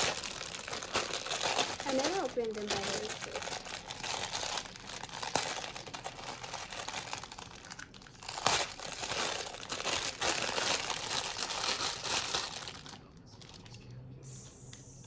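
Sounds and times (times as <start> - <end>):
packaging crinkling: 0.0 - 13.8.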